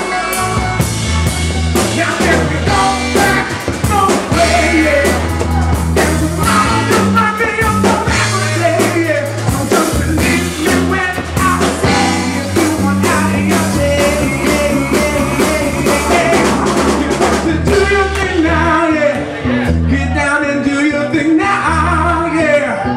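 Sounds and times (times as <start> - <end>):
man singing: 0.0 - 22.9
soul band playing: 0.0 - 22.9.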